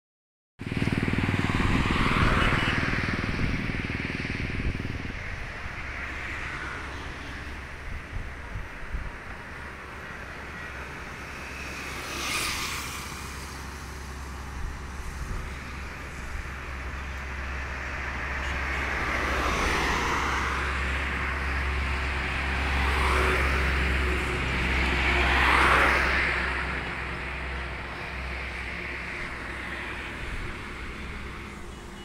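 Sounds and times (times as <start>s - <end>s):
vehicles passing: 0.6s - 32.0s.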